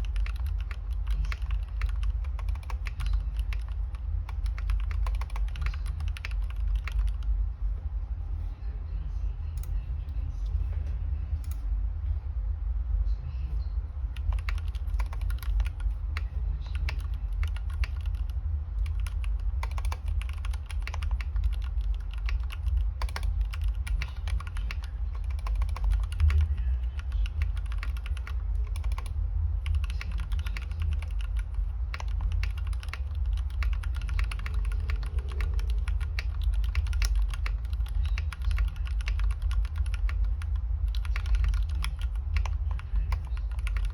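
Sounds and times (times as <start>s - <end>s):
fast mechanical keyboard typing: 0.0s - 7.3s, 14.0s - 43.9s
steady low hum: 0.0s - 43.9s.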